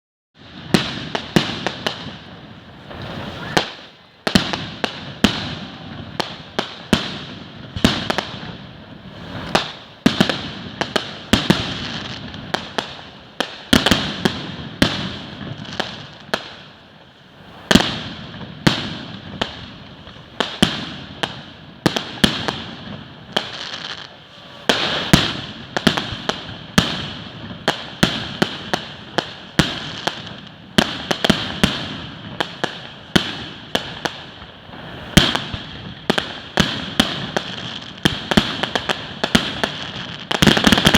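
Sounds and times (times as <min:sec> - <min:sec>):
fireworks bangs: 0:00.4 - 0:40.9
fireworks crackle: 0:00.4 - 0:40.9.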